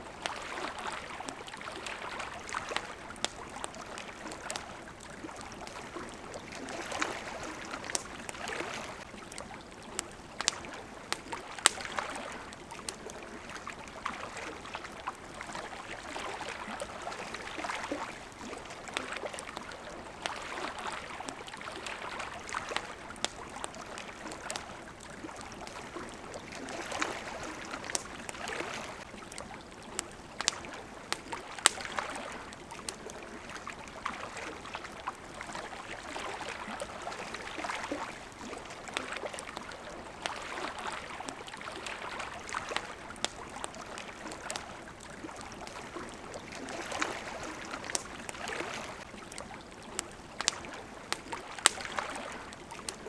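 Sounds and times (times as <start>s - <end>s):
campfire crackling and popping: 0.0s - 53.0s
water washing and flowing: 0.0s - 53.0s.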